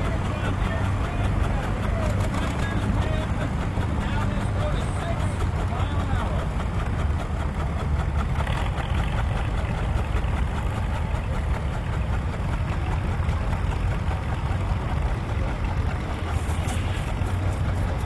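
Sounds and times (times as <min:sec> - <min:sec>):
tractor engines rumbling: 0:00.0 - 0:18.0.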